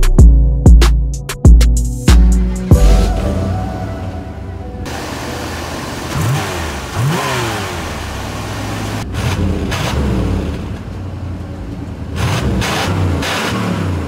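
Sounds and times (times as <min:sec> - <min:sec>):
engine idling and revving: 0:01.8 - 0:14.0.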